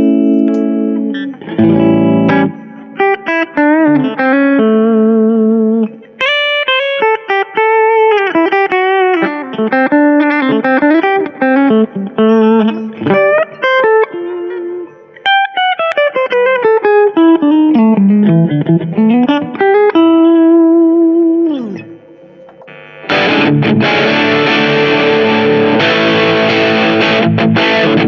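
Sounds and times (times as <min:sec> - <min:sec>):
distorted guitar chords: 0:00.0 - 0:28.0
electric guitar lead lines: 0:00.0 - 0:28.0.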